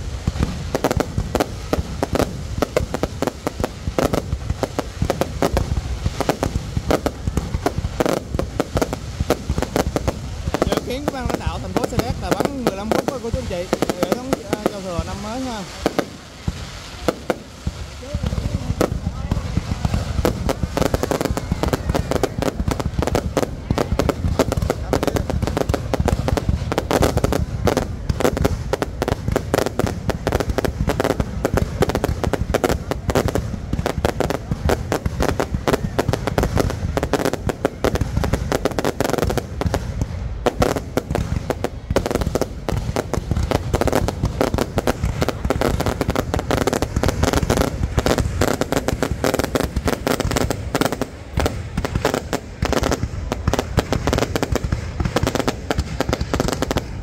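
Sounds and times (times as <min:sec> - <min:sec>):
fireworks bursting: 0:00.0 - 0:57.0.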